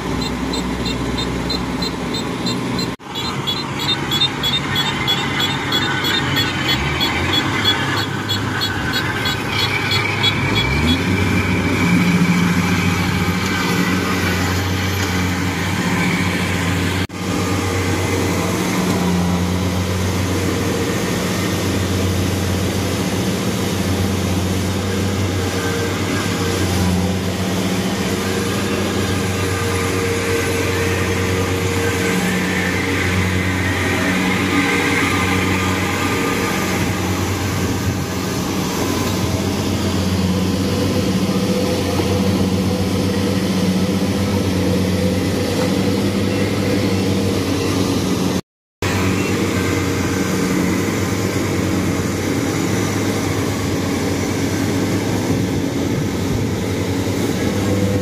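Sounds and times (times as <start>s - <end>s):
diesel engines under load: 0.0s - 58.0s
engine revving up: 0.0s - 58.0s.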